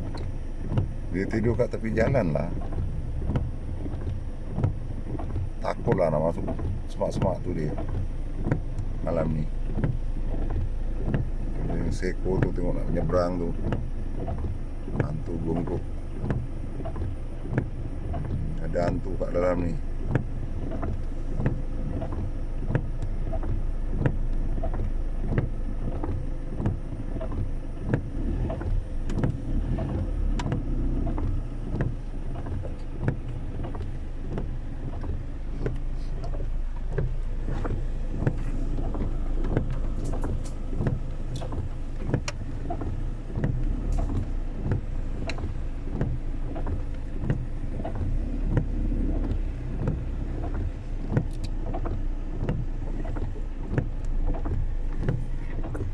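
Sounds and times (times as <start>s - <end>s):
raindrops tapping on car: 0.0s - 55.9s
vehicle driving rumble: 0.0s - 55.9s.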